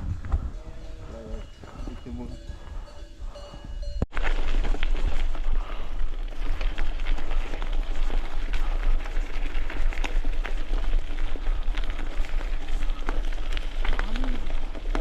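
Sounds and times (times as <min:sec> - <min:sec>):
wind buffeting microphone: 0:00.0 - 0:14.8
bicycle rolling over rough ground: 0:00.0 - 0:15.0.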